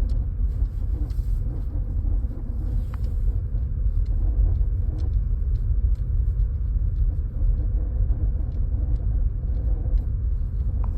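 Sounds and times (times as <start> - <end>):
car engine rumbling: 0.0 - 10.9
faint sharp engine ticks: 0.0 - 10.9.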